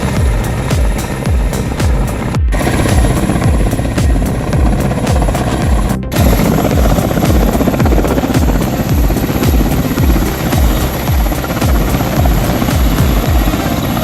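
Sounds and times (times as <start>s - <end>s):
background music: 0.0s - 14.0s
helicopter rotor and turbine: 0.0s - 14.0s.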